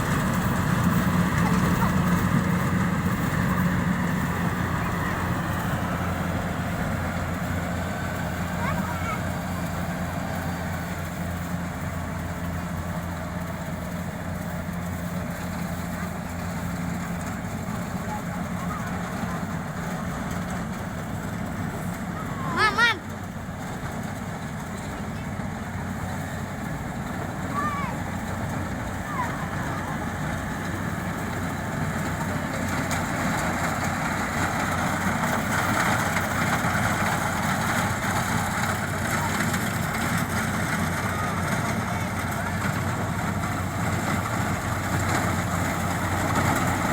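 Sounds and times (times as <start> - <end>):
harvesting machine engine running: 0.0 - 46.9.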